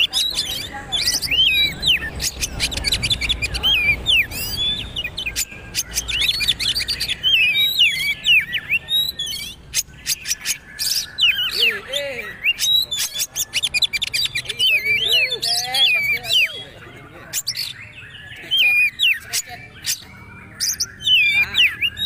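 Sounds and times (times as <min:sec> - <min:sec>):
bird singing whistles and chatter: 0:00.0 - 0:22.0.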